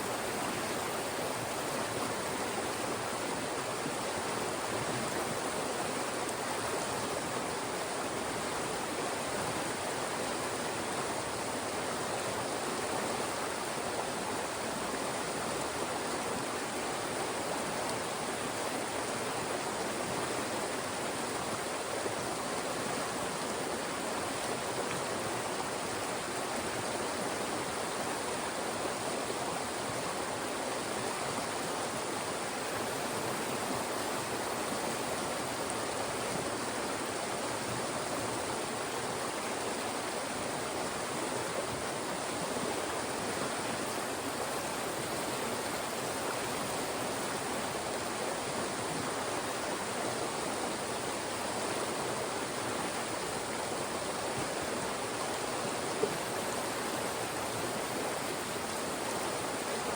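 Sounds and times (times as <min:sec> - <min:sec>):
mountain stream rushing over rocks: 0:00.0 - 0:59.9.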